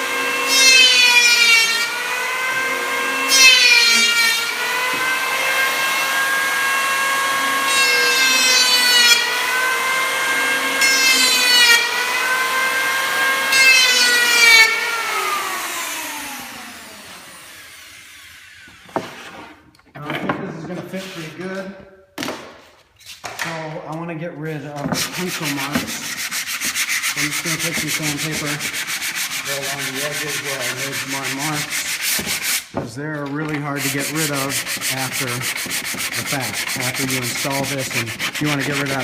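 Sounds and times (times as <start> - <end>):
electric hand planer rasping wood: 0.0 - 19.5, 25.0 - 32.7, 33.7 - 39.0.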